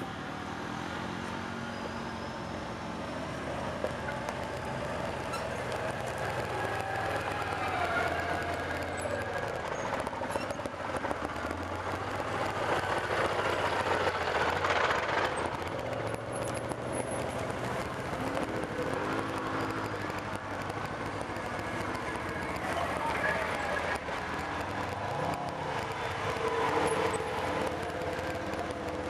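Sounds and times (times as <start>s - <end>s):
quad bike engines driving: 0.0s - 29.0s
engine revving: 2.8s - 29.0s.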